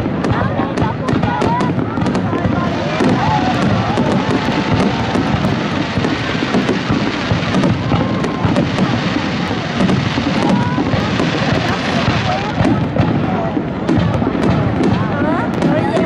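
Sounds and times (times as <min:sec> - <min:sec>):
crackling pops: 0:00.0 - 0:16.0
fireworks bursting: 0:00.0 - 0:16.0.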